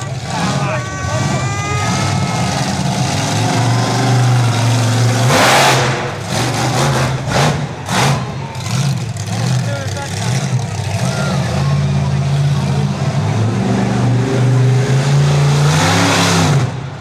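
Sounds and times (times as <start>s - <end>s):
heavy vehicle engine revving: 0.0s - 17.0s
loud rushes of noise: 0.0s - 17.0s.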